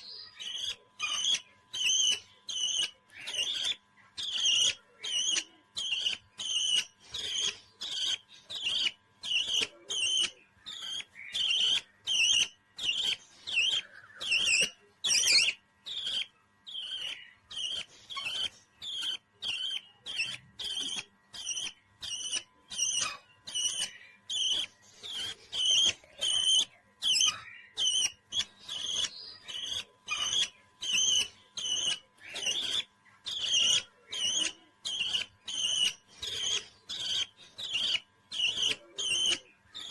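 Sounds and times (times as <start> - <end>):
parrot chirping shrilly: 0.3 - 39.9.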